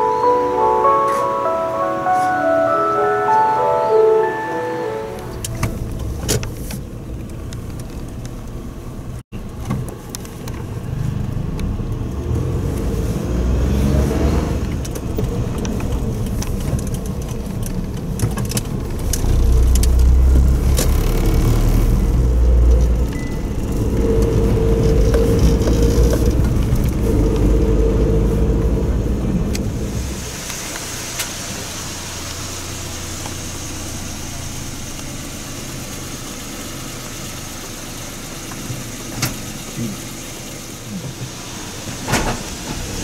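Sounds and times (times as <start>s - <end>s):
car engine and road rumble: 4.9s - 43.0s.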